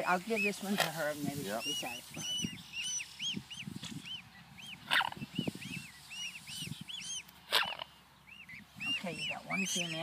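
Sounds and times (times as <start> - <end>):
cygnet peeping: 0.0 - 10.0.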